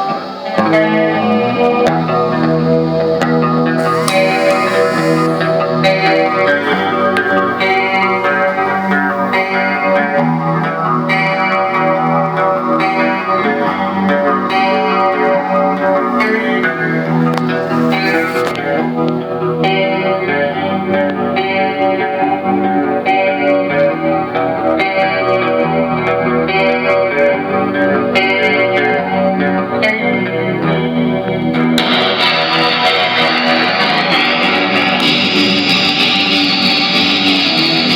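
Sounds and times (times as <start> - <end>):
electric guitar with chorus effect: 0.0 - 37.9.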